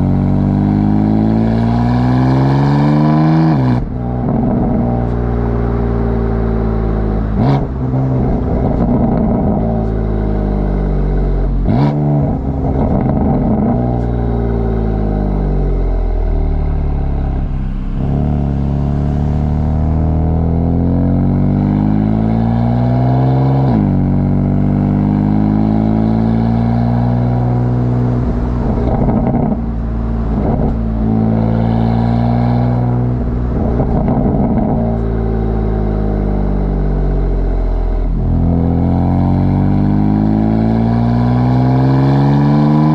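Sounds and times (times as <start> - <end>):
car exhaust accelerating through gears: 0.0 - 42.9.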